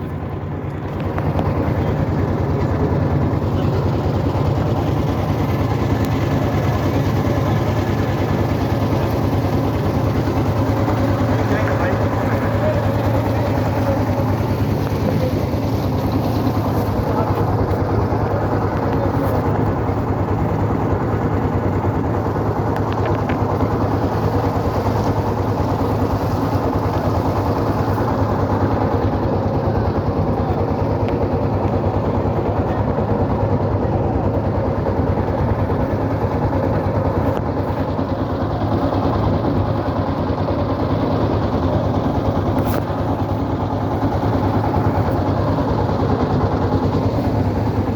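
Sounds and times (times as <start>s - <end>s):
boat engine humming: 0.0s - 47.9s.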